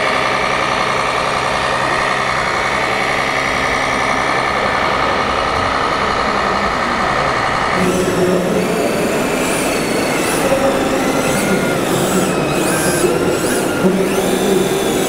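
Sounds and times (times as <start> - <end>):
electric motors whining: 0.0 - 15.0
steady background din: 0.0 - 15.0.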